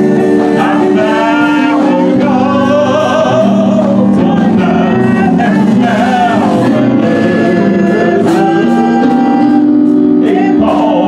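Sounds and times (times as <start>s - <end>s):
instrumental backing: 0.0s - 11.0s
man singing gospel song: 0.0s - 11.0s.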